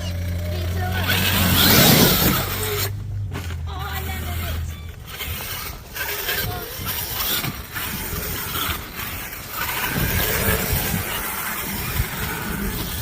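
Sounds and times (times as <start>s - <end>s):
toy truck motor whirring: 0.0s - 13.0s.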